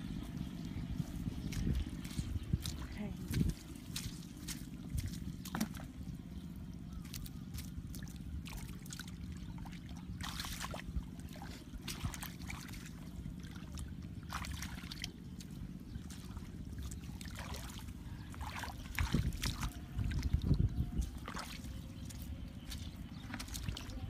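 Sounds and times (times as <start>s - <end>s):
bare feet squelching in mud: 0.0s - 24.0s
steady low rumble: 0.0s - 24.0s
hands splashing in muddy water: 1.1s - 6.2s, 6.9s - 24.0s.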